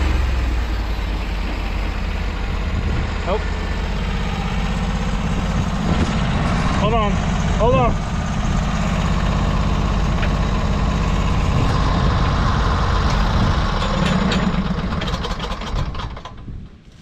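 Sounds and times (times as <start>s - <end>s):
sawmill gas engine running: 0.0s - 16.6s.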